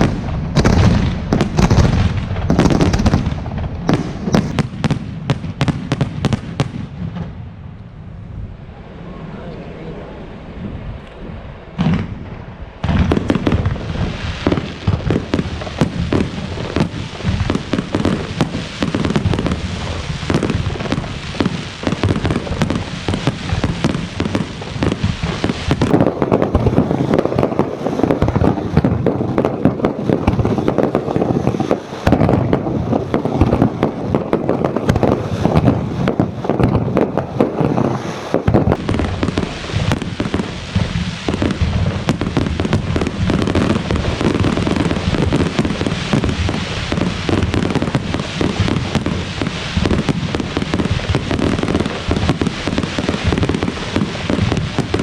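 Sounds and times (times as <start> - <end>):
fireworks bang: 0.0 - 7.4, 11.8 - 55.0
fireworks barrage crackling: 0.0 - 55.0.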